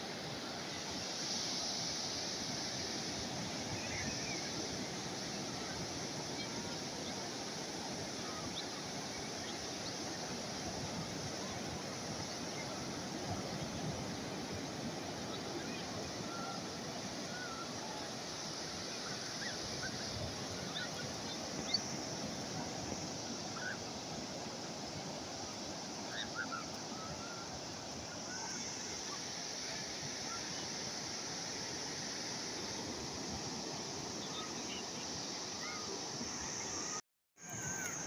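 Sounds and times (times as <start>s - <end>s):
calm sea waves: 0.0s - 38.0s.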